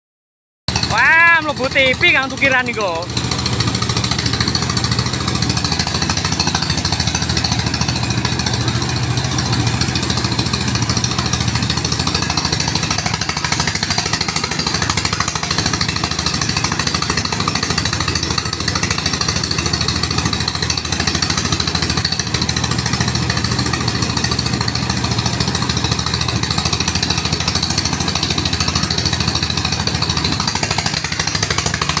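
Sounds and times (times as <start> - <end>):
threshing machine rattling: 0.7 - 32.0.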